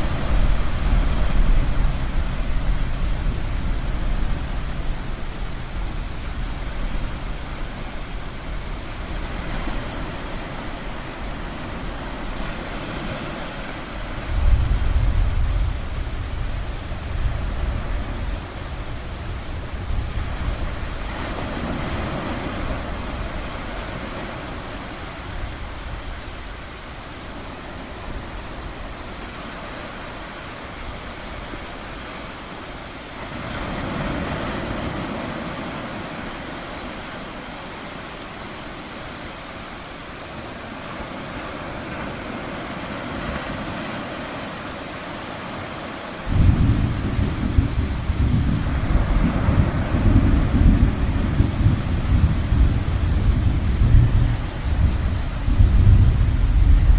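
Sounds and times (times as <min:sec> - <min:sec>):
ocean waves washing in: 0:00.0 - 0:56.9.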